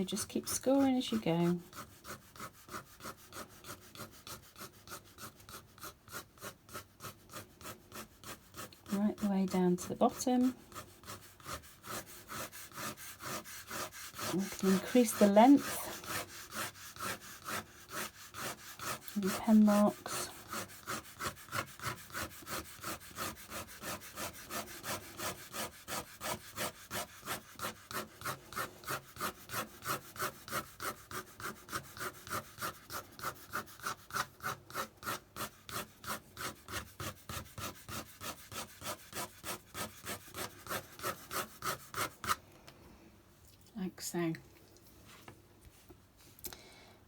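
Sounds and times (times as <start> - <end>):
pen scratching on paper: 0.1 - 42.4.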